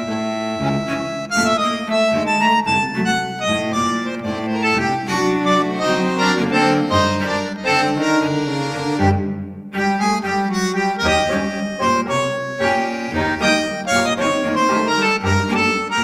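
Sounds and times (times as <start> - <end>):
instrumental music with accordion: 0.0 - 16.0.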